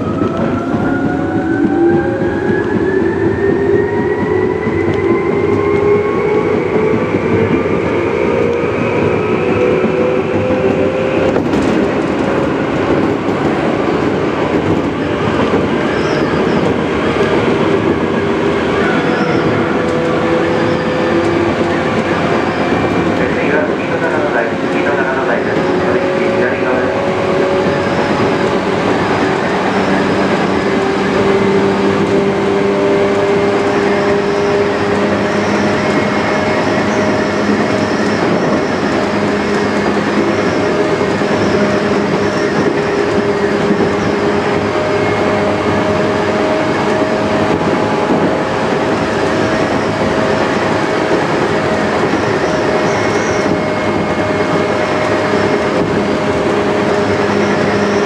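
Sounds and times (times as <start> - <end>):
wheel-on-rail rumble: 0.0 - 58.0.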